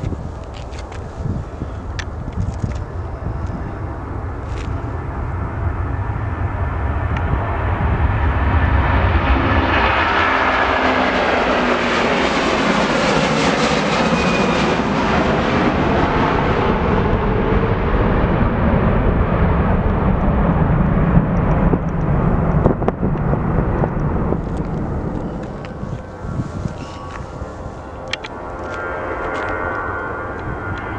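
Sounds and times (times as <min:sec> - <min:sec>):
jet airliner passing: 0:00.0 - 0:30.9.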